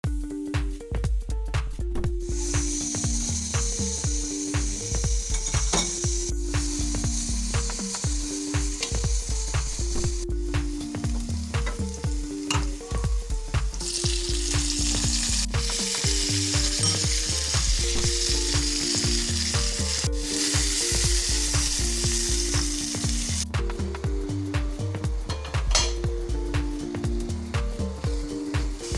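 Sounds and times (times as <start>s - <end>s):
background music with bass beat: 0.0s - 28.9s
food sizzling in hot oil: 2.2s - 28.9s.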